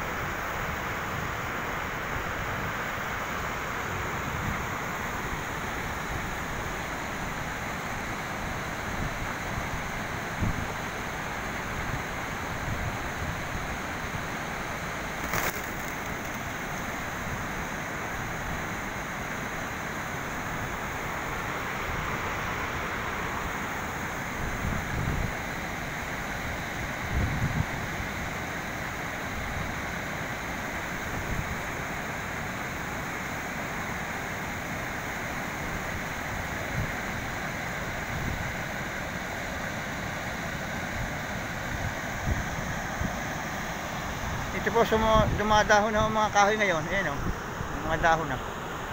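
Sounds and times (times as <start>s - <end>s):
river water pouring over a weir: 0.0s - 46.9s
steady outdoor hiss: 0.0s - 48.9s.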